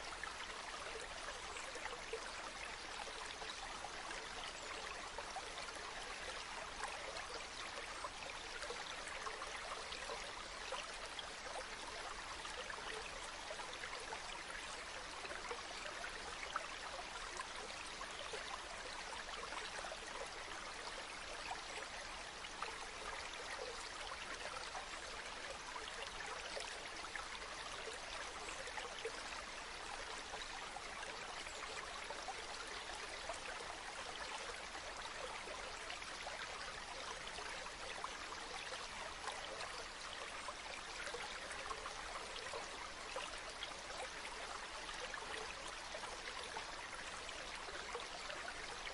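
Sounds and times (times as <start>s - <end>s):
fine water trickle: 0.0s - 48.9s
stream running: 0.0s - 48.9s.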